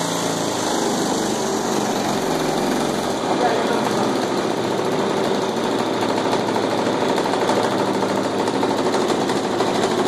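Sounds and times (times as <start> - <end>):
small engine running fast: 0.0 - 10.0.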